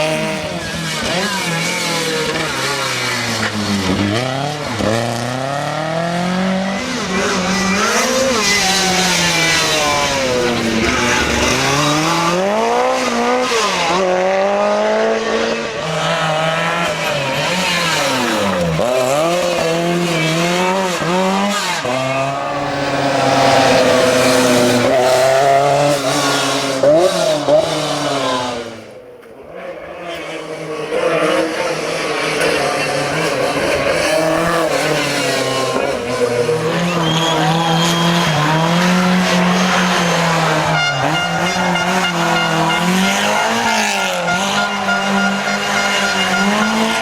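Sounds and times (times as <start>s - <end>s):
rally car engine at full throttle: 0.0s - 47.0s.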